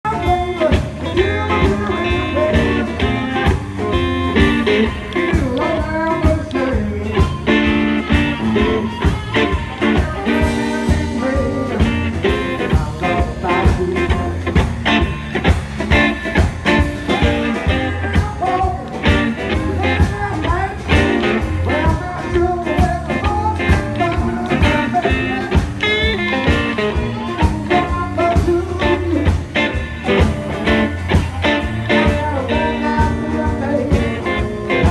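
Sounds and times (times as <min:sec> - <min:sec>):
blues band playing: 0:00.0 - 0:34.9
person singing: 0:00.0 - 0:34.9.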